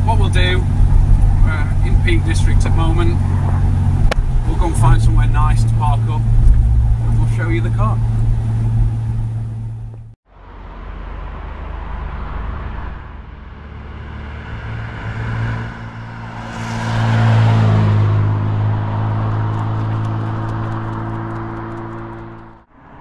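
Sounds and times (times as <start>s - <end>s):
car engine passing by: 0.0s - 23.0s.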